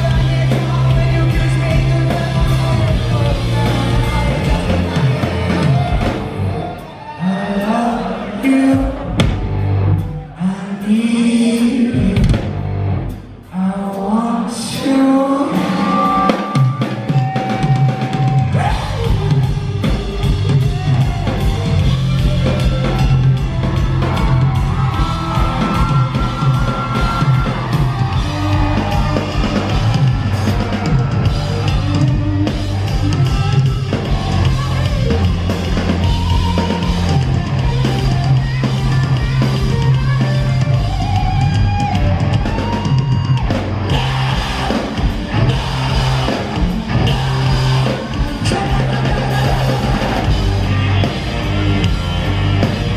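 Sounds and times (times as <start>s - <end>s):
drum kit: 0.0s - 7.9s, 8.5s - 14.2s, 14.8s - 52.9s
bass guitar: 0.0s - 52.9s
live rock band playing: 0.0s - 52.9s.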